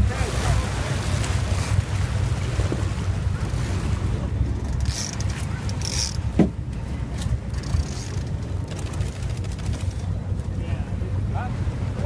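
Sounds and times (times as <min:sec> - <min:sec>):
boat engine running: 0:00.0 - 0:12.0
sea splashing: 0:00.0 - 0:12.0.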